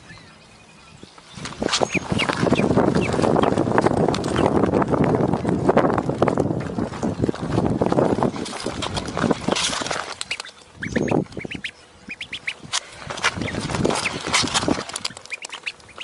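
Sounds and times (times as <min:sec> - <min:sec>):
duckling peeping: 0:00.0 - 0:16.0.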